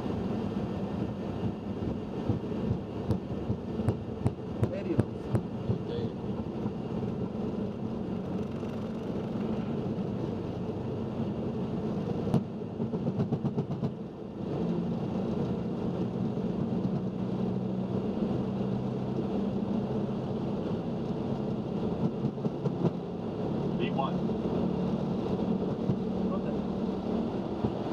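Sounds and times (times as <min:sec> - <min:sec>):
jet engines humming and rumbling: 0:00.0 - 0:27.9.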